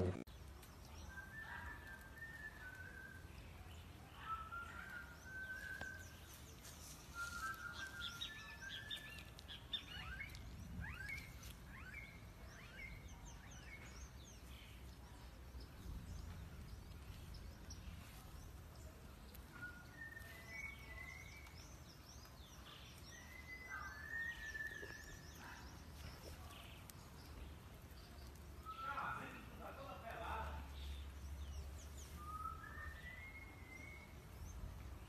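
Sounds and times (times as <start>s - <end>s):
birds chirping and whistling: 0.0s - 35.0s
low rumble of background noise: 0.0s - 35.0s.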